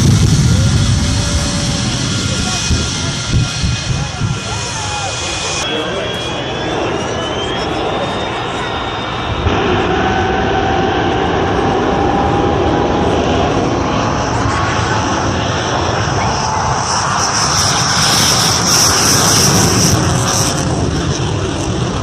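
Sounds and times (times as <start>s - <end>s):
high jet whine: 0.0s - 22.0s
jet engines roaring: 0.0s - 22.0s.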